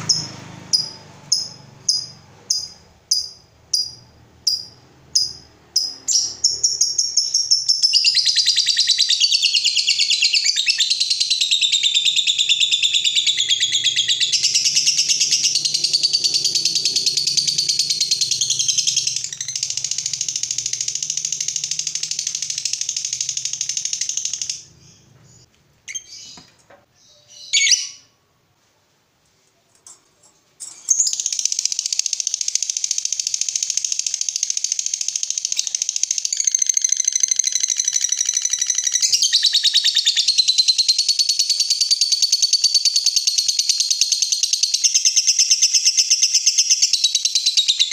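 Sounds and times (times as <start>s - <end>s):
bird chattering trill: 0.0s - 26.4s, 30.7s - 47.9s.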